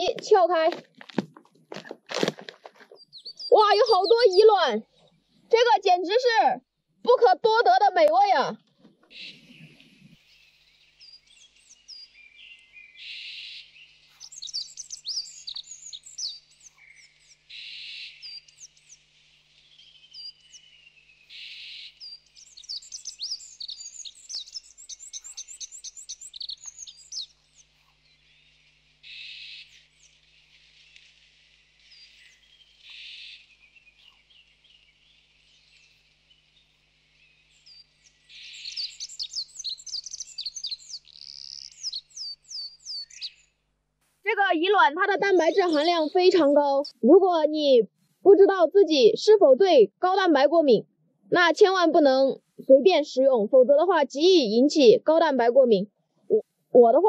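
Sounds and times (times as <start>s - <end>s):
small birds chirping: 0.0s - 43.7s, 44.3s - 57.0s.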